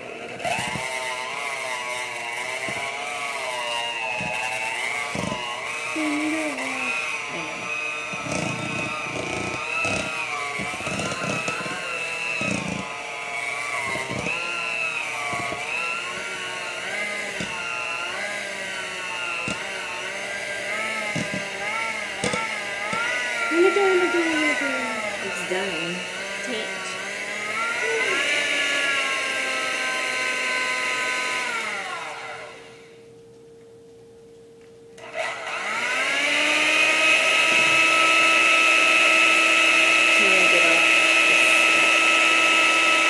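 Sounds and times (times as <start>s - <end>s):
electric hand mixer whine: 0.0s - 33.2s, 35.0s - 43.0s.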